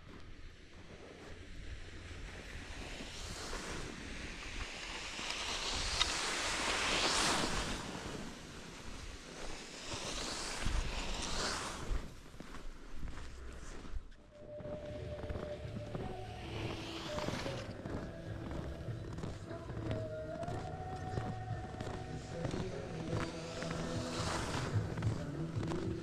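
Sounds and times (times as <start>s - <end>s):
skis swishing on snow: 0.2s - 26.0s.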